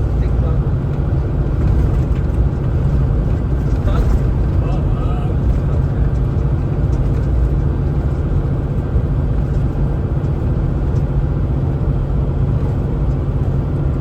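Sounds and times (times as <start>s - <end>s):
road and tyre noise: 0.0s - 14.0s
truck diesel engine running: 0.0s - 14.0s.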